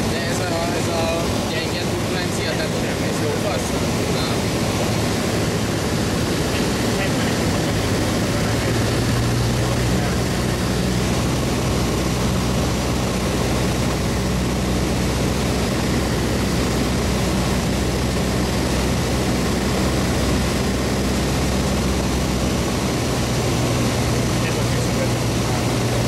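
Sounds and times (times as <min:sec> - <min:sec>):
aircraft engine and propeller humming: 0:00.0 - 0:26.0.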